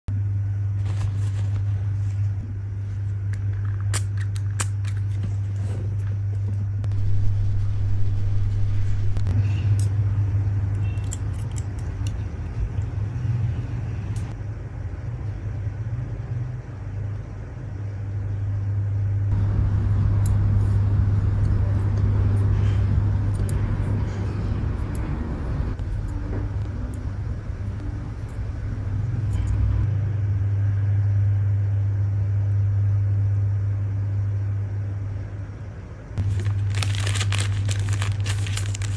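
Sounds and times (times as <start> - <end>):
low rumbling hum: 0.1 - 38.9.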